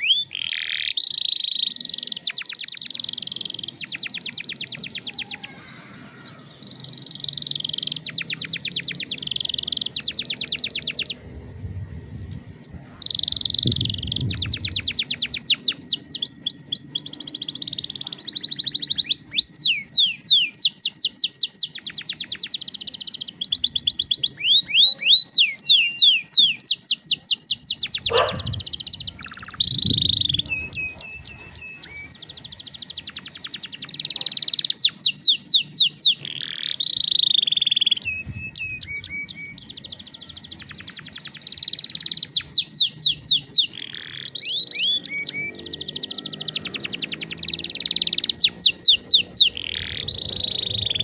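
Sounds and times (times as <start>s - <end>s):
canary singing trills: 0.0s - 11.2s, 12.6s - 51.0s.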